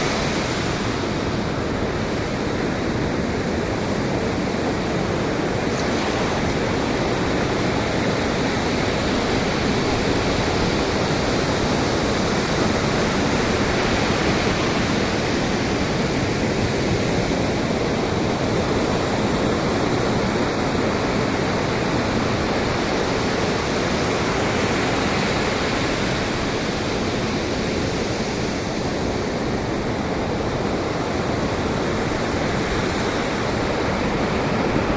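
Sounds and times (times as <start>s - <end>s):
waves breaking: 0.0s - 34.9s
wind: 0.0s - 34.9s.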